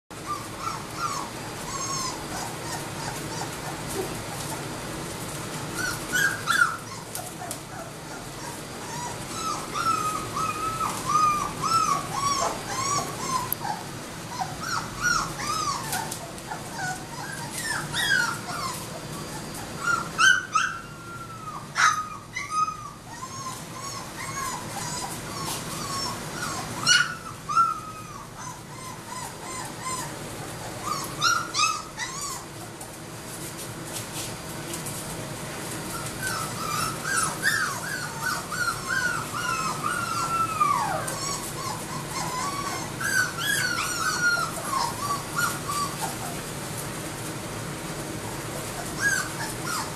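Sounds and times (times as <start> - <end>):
puppy yelps: 0.2 - 4.7, 5.8 - 32.6, 35.9 - 46.4, 48.3 - 49.9
puppies whimpering and squealing: 0.2 - 33.3, 35.6 - 49.9.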